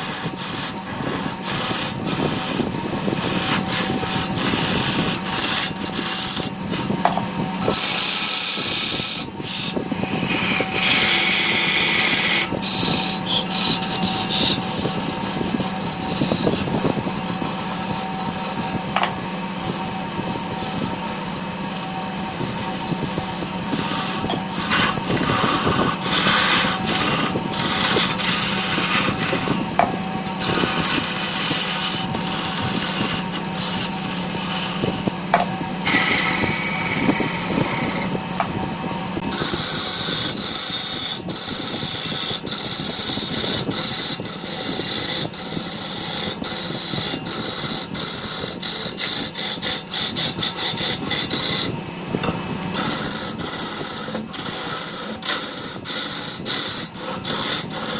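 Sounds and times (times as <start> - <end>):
tool scraping spinning wood: 0.0 - 57.9
wood lathe motor hum: 0.0 - 57.9.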